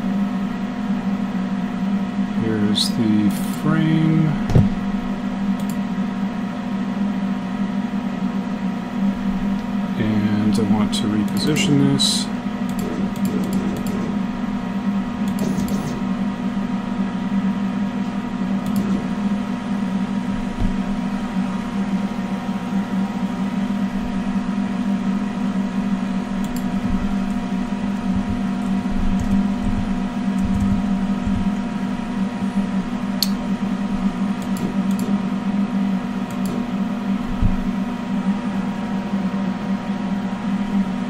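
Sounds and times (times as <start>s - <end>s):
laser cutter humming: 0.0s - 41.0s.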